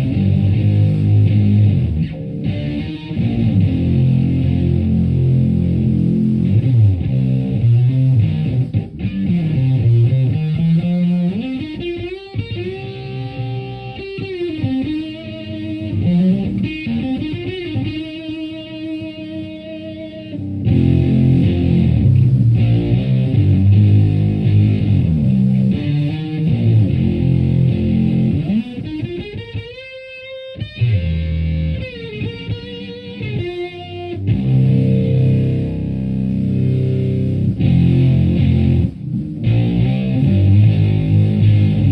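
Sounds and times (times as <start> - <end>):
fuzz distorted electric guitar: 0.0 - 41.9.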